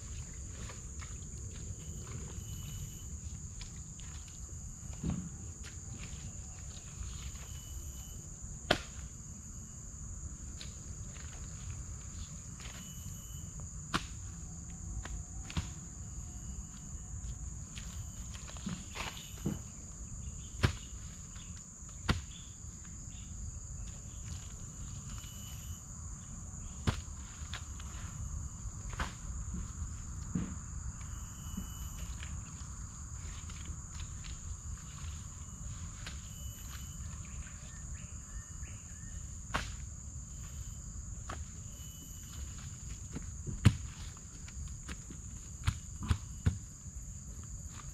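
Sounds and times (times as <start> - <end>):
insects droning high-pitched: 0.0 - 47.9.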